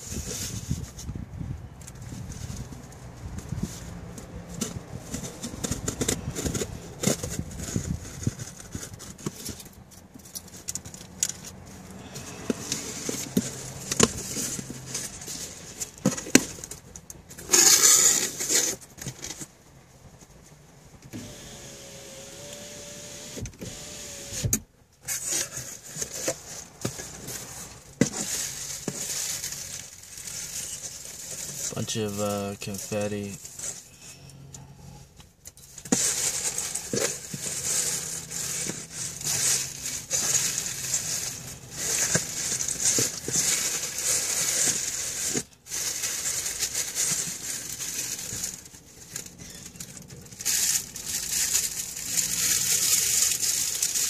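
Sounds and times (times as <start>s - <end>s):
packaging rustling and crinkling: 1.8s - 19.5s, 25.1s - 34.0s, 35.5s - 54.0s.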